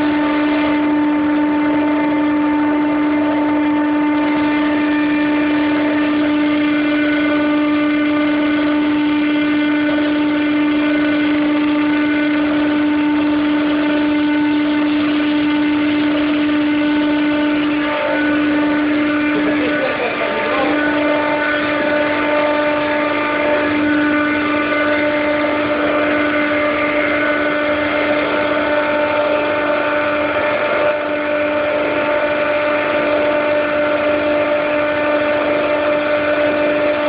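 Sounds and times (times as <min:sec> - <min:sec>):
chiller compressor humming: 0:00.0 - 0:37.0.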